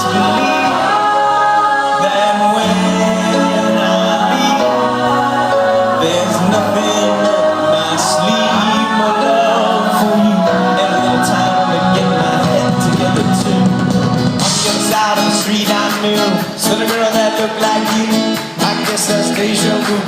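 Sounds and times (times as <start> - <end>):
person singing: 0.0 - 20.0
pop-rock band playing: 0.0 - 20.0.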